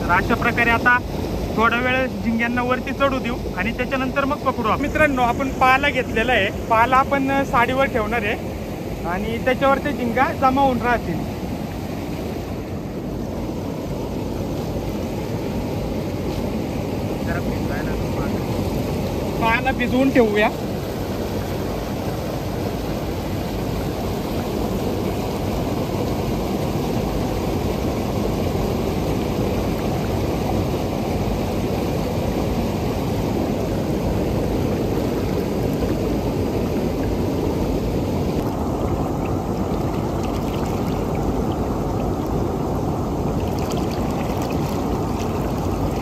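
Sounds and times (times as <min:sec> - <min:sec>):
stream water rushing: 0:00.0 - 0:46.0.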